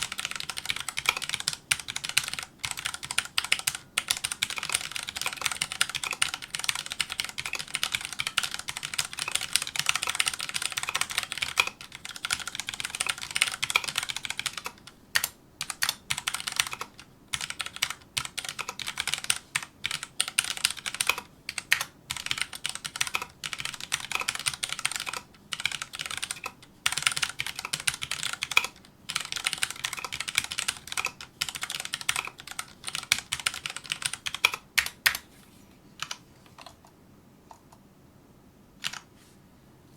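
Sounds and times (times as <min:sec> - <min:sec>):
mechanical keyboard typing: 0:00.0 - 0:35.2, 0:36.0 - 0:36.9, 0:38.8 - 0:39.1.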